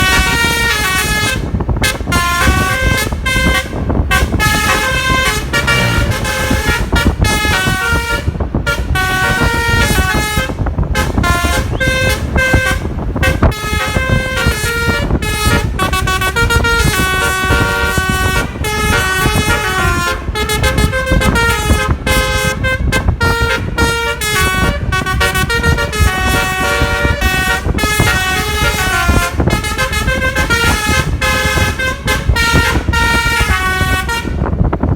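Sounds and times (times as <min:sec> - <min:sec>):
low steady rumble: 0:00.0 - 0:34.9
multi-tone bus horn melody: 0:00.0 - 0:34.9.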